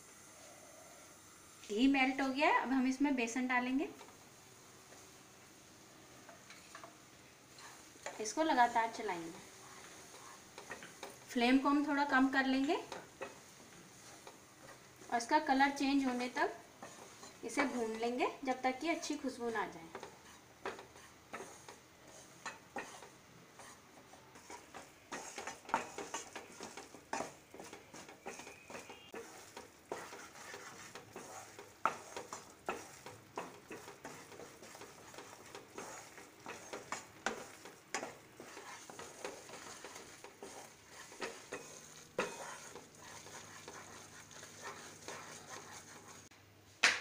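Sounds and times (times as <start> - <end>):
faint frying sizzle: 0.0 - 46.4
wooden spatula scraping pan: 6.2 - 46.3.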